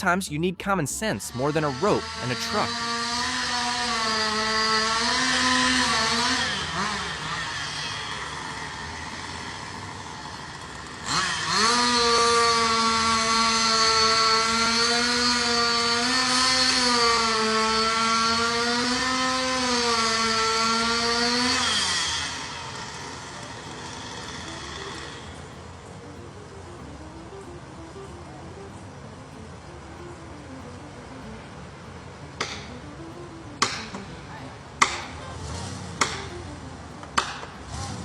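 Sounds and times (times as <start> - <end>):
two-stroke chainsaw revving: 1.2 - 38.0.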